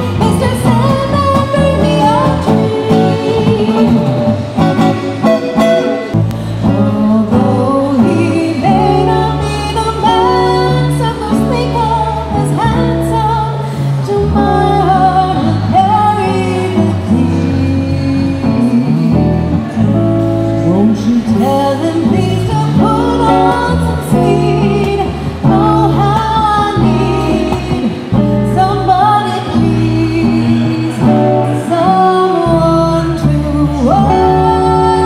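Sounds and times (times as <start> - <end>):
acoustic guitar strumming chords: 0.0 - 35.0
woman singing into a microphone: 0.0 - 35.0.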